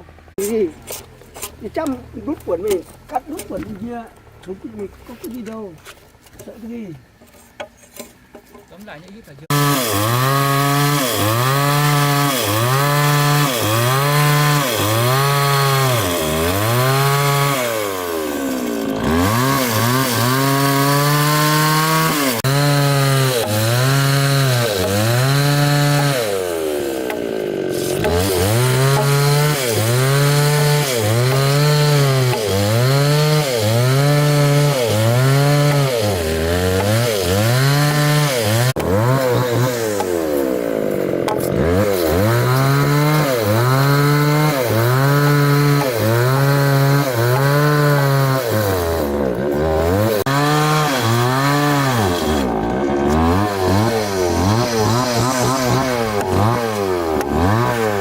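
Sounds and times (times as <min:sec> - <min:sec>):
chainsaw cutting wood: 0:09.5 - 0:58.0.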